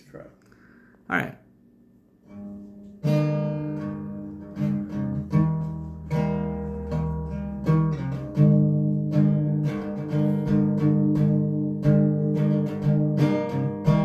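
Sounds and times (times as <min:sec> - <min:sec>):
acoustic guitar strumming: 0:02.2 - 0:14.0.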